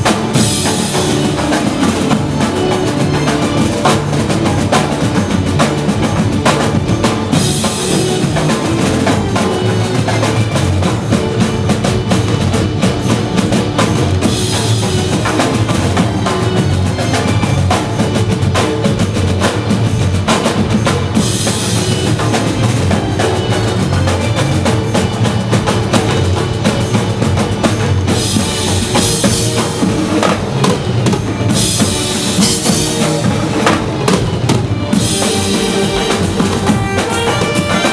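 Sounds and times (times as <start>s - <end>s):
banjo band playing: 0.0s - 37.9s
dense steady drumming: 0.0s - 37.9s.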